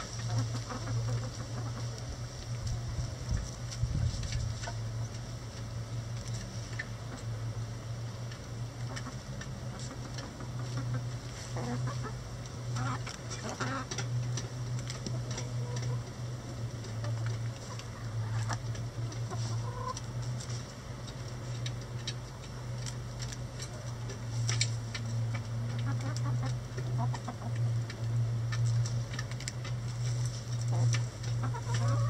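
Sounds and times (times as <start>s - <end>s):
hens clucking: 0.0s - 32.0s
low hum: 0.0s - 32.0s
hens pecking taps: 0.1s - 7.3s, 8.2s - 32.0s.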